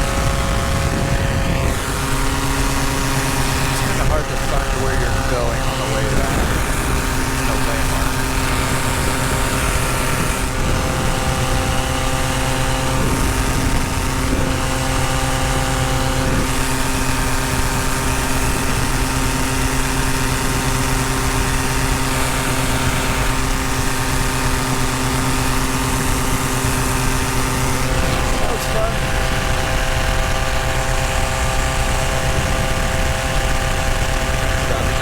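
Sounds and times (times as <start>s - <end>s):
paramotor engine and propeller: 0.0s - 35.0s
wind rushing over microphone: 0.0s - 35.0s.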